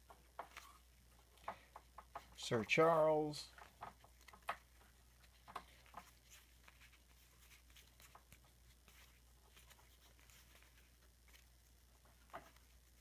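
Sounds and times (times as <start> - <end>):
trading cards rustling and clicking: 0.0 - 13.0.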